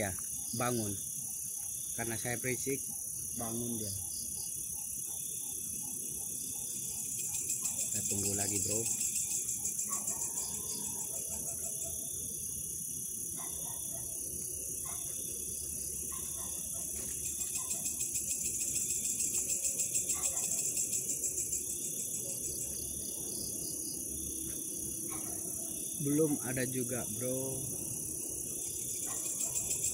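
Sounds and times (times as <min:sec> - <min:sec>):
crickets chirring: 0:00.0 - 0:29.9.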